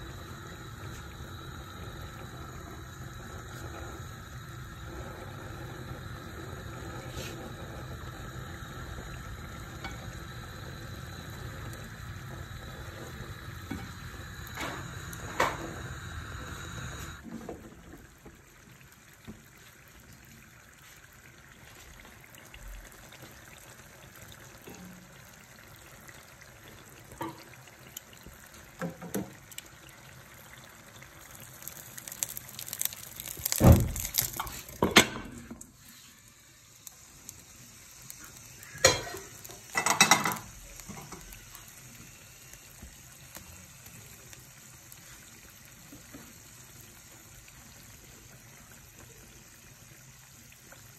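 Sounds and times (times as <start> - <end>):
food sizzling in a pan: 0.0 - 50.9.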